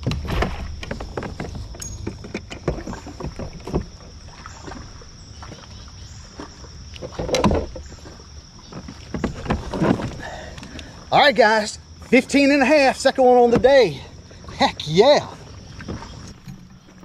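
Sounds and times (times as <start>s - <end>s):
net and gear knocking on hull: 0.0s - 4.8s, 6.9s - 10.8s, 11.5s - 17.0s
water splashing: 0.0s - 17.0s.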